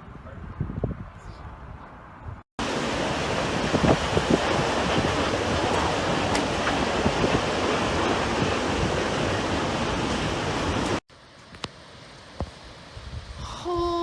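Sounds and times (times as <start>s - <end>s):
strong wind buffeting microphone: 0.0s - 11.0s, 12.9s - 14.0s.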